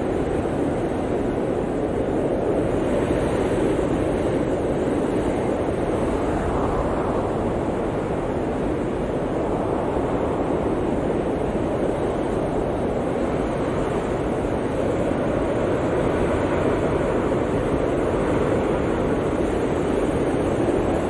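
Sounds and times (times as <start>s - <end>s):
blizzard wind rushing: 0.0s - 21.0s.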